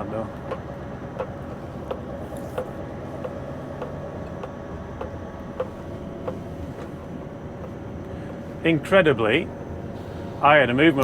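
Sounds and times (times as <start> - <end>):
diesel lorry engine running: 0.0 - 11.0.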